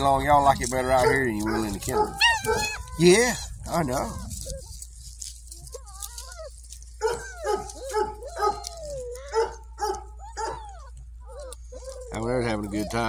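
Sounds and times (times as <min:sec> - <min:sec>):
puppies yelping: 0:00.0 - 0:13.0
puppy whining: 0:00.0 - 0:13.0.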